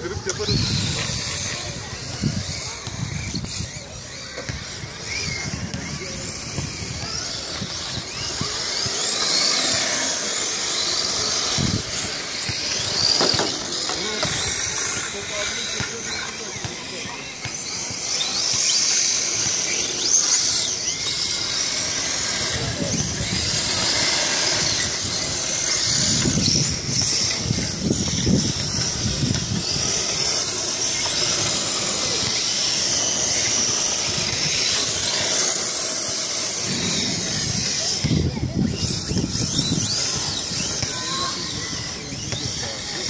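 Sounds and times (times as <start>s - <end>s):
electric motors whining: 0.0s - 43.0s
tyres hissing and scraping: 3.4s - 43.0s.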